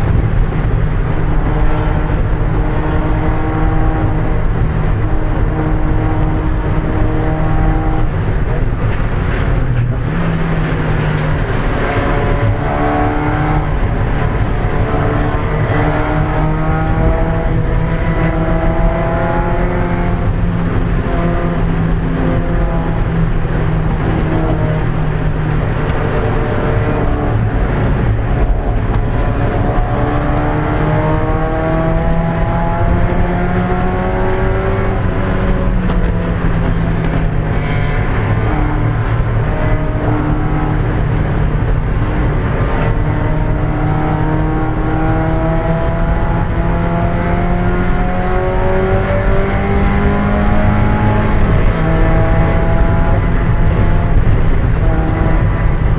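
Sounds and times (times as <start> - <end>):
car engine revving at racing pace: 0.0 - 55.9
road and wind noise: 0.0 - 55.9.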